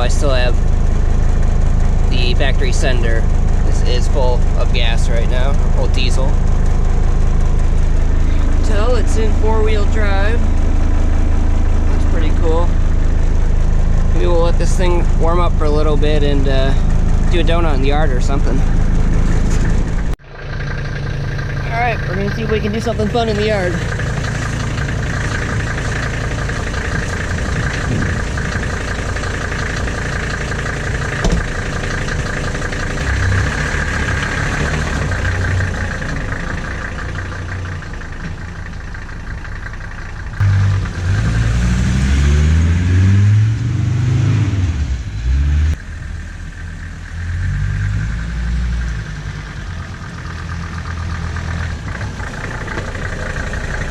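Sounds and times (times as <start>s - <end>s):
diesel engine idling and revving: 0.0s - 53.9s.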